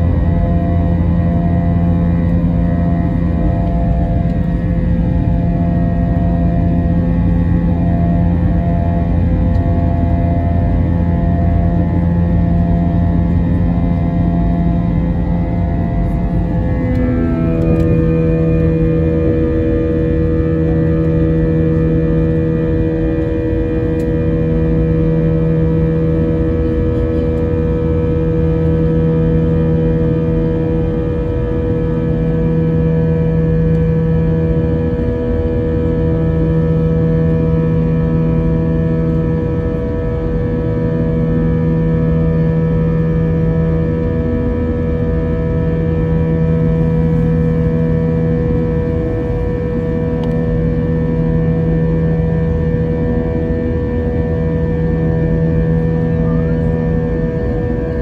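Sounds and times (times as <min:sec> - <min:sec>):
constant tone: 0:00.0 - 0:58.0
jet engine cabin drone: 0:00.0 - 0:58.0
low hum: 0:00.0 - 0:58.0.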